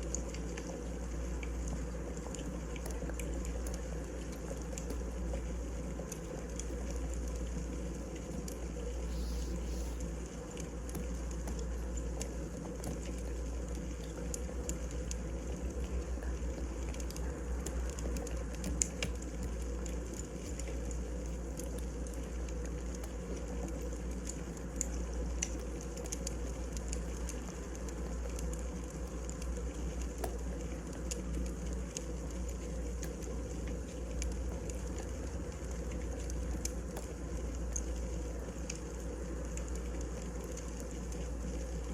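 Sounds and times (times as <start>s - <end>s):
fire crackles and pops: 0.0s - 41.9s
fire rumble: 0.1s - 41.9s.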